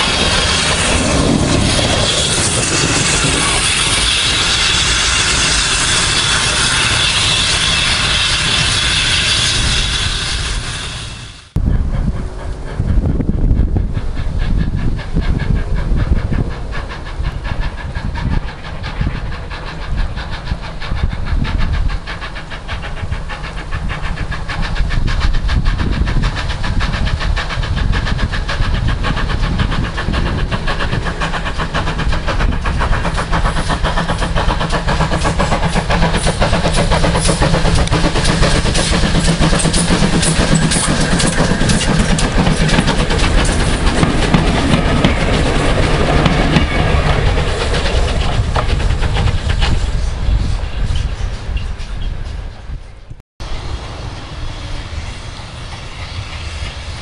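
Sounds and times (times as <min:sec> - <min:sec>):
train wheels clattering over rail joints: 0:00.0 - 0:52.9.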